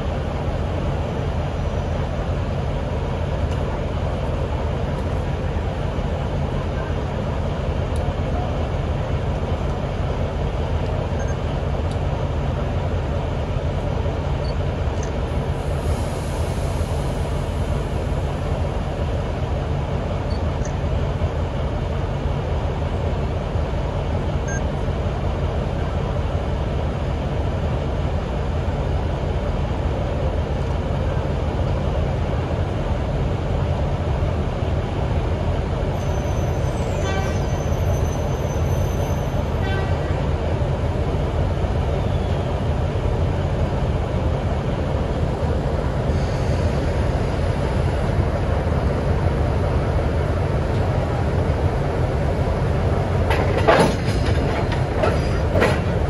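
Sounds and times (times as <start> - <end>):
locomotive diesel engine droning: 0.0 - 56.0.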